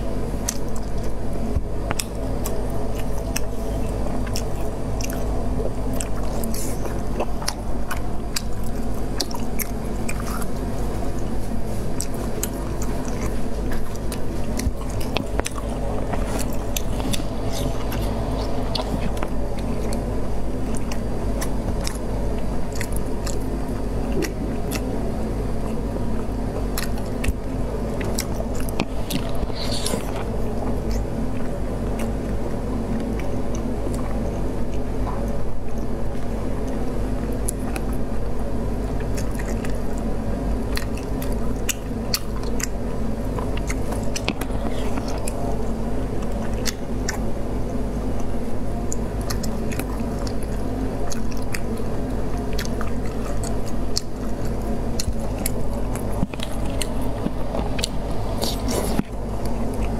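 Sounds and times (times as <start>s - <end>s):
chewing soft wet food: 0.0s - 59.9s
low background hum: 0.0s - 59.9s.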